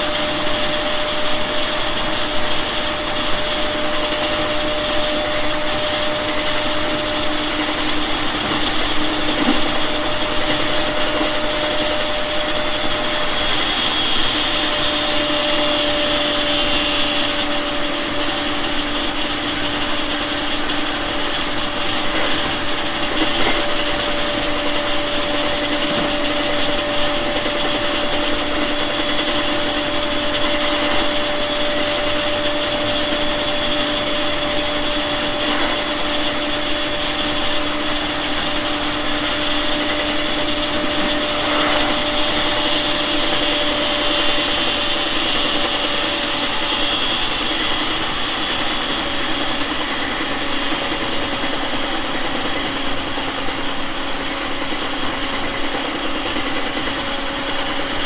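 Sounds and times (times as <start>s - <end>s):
traction equipment hum: 0.0s - 58.0s
train wheel and rail rumble: 0.0s - 58.0s.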